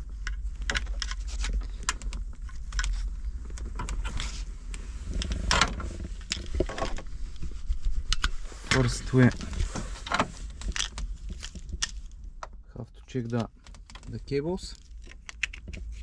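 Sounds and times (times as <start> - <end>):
wiring harnesses being handled: 0.0 - 12.2, 13.0 - 16.0
steady low hum: 0.0 - 16.0.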